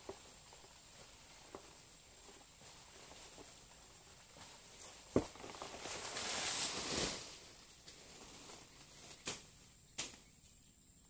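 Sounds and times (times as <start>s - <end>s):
dry leaves rustling: 0.0s - 9.8s.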